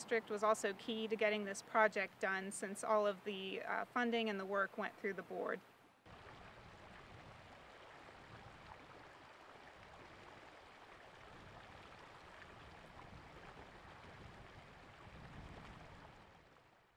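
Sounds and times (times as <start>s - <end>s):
creek water rippling over boulders: 0.0s - 16.9s.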